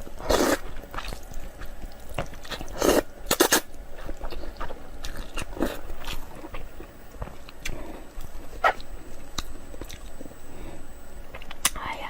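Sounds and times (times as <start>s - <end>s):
person chewing noodles: 0.0s - 11.7s.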